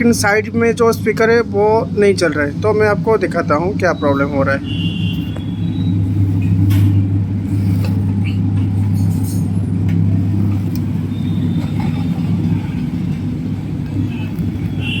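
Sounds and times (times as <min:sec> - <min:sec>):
loud low speaker hum: 0:00.0 - 0:15.0.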